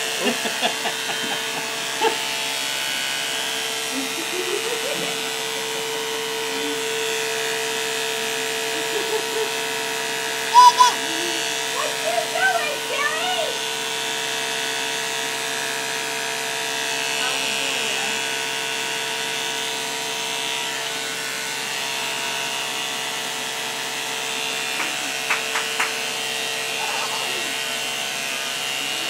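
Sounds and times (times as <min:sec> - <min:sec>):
electric hair clippers buzzing: 0:00.0 - 0:29.0.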